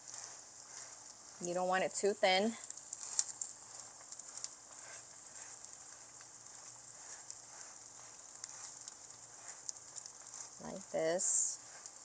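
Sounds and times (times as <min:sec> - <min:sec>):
fish patty sizzling in oil: 0:00.0 - 0:12.0.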